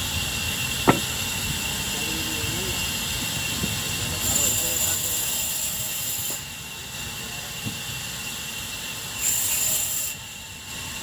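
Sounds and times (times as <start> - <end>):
band saw cutting log: 0.0 - 11.0.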